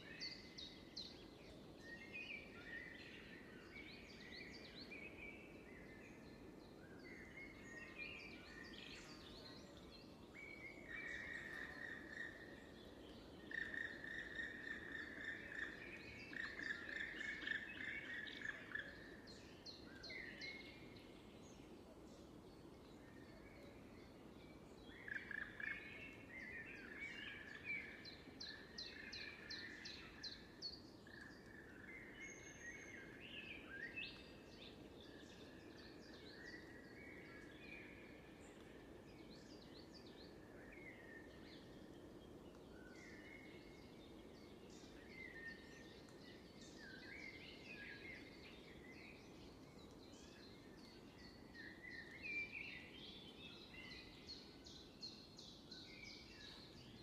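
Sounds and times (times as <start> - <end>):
faint low background noise: 0.0 - 57.0
songbirds singing: 0.0 - 57.0.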